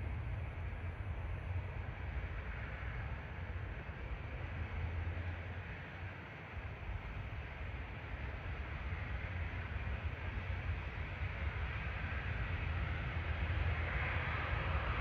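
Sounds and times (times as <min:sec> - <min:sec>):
distant jet engine roar: 0:00.0 - 0:15.0.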